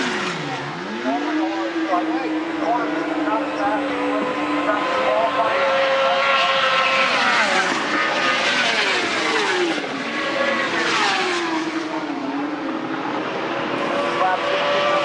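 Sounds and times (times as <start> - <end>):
racing motorbikes passing by: 0.0 - 15.0.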